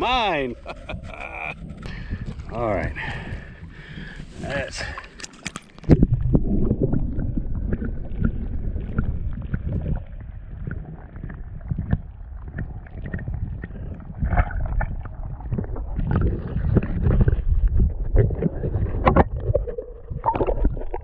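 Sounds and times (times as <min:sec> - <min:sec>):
muffled underwater water churning: 0:00.1 - 0:21.0.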